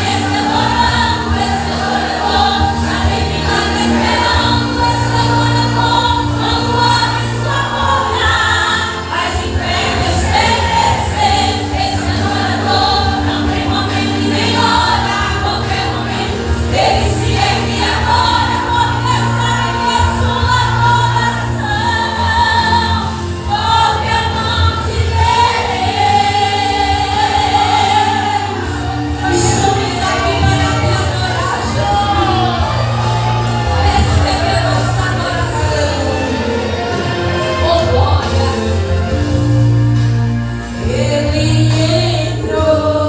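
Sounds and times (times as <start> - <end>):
amplified instrumental backing: 0.0 - 43.0
group singing in unison: 0.0 - 43.0
sustained bass notes: 0.0 - 43.0.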